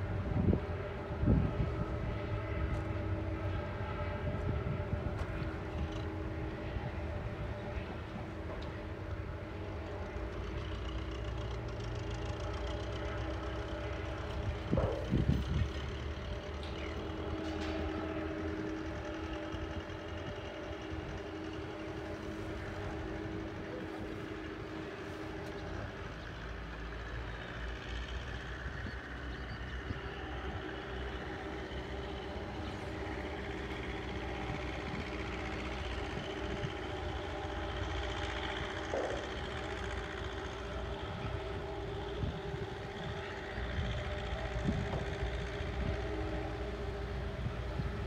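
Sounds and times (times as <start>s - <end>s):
ferry diesel engines droning: 0.0s - 48.0s.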